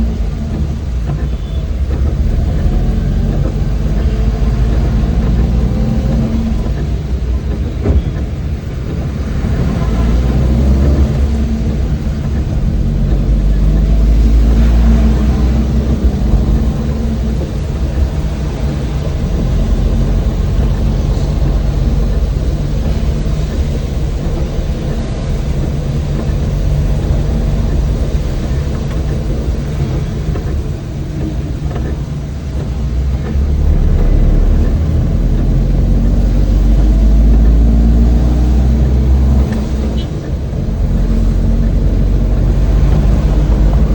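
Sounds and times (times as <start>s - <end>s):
road noise: 0.0s - 43.9s
van engine drone: 0.0s - 43.9s.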